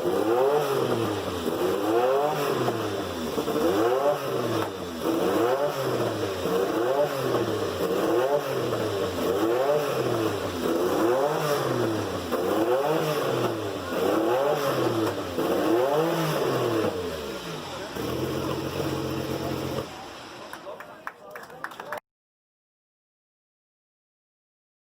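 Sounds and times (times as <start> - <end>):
racing engine revving: 0.0 - 20.2.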